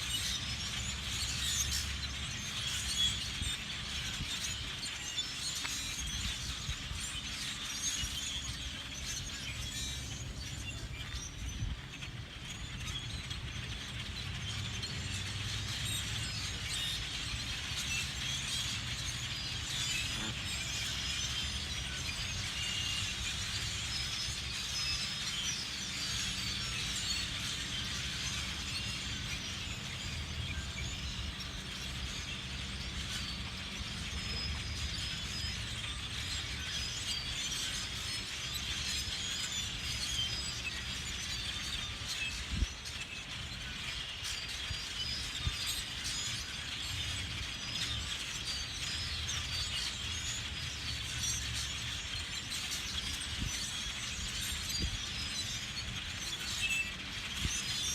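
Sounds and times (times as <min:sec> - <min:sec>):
flock of birds chirping: 0:00.0 - 0:57.9.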